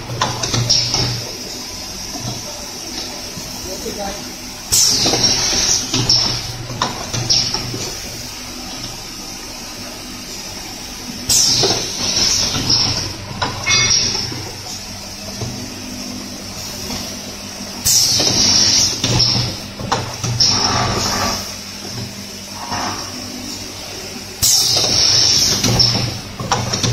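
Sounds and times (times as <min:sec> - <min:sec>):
machine mechanical hum: 0:00.0 - 0:26.9.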